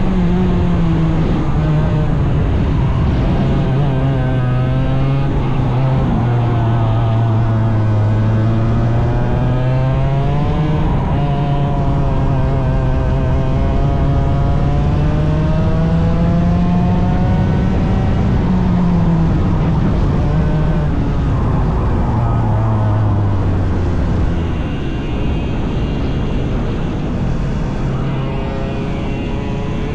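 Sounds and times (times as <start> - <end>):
racing engine running hard: 0.0 - 29.9.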